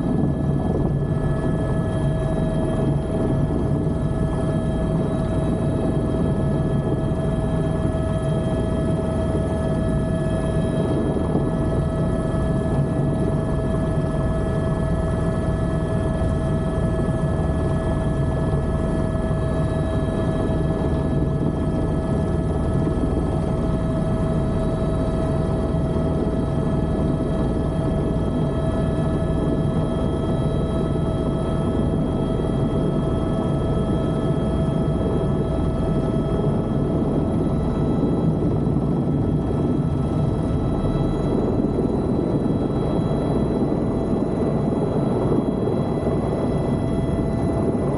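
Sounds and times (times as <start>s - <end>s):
helicopter engine and rotor rumble: 0.0s - 47.9s
helicopter whine: 0.0s - 47.9s.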